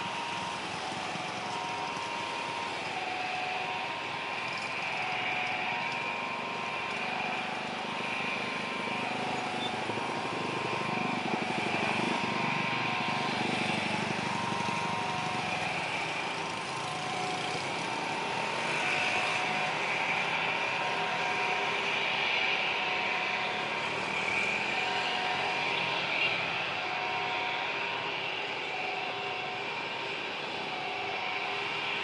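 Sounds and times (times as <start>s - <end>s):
jet engines droning: 0.0s - 32.0s.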